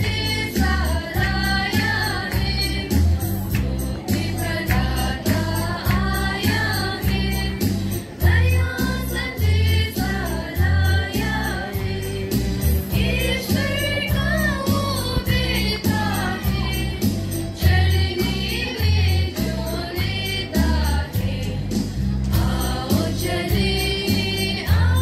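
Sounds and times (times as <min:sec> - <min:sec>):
youth choir singing: 0:00.0 - 0:25.0.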